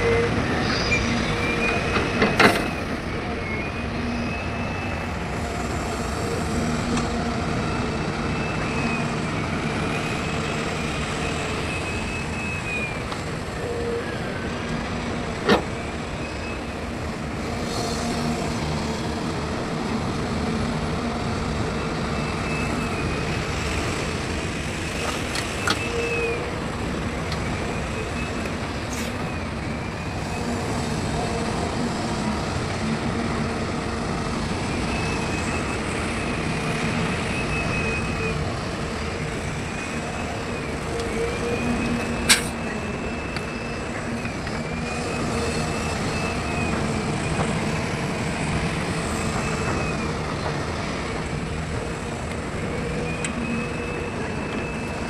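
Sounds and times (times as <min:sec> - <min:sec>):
excavator diesel engine: 0:00.0 - 0:55.0
hydraulic whine: 0:00.0 - 0:55.0.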